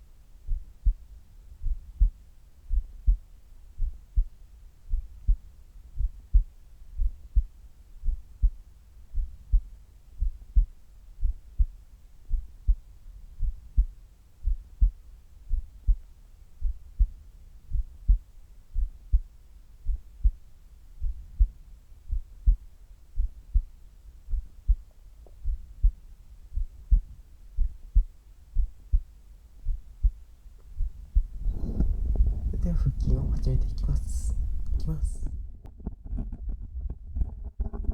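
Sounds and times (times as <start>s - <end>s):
heart beating: 0.0s - 37.9s.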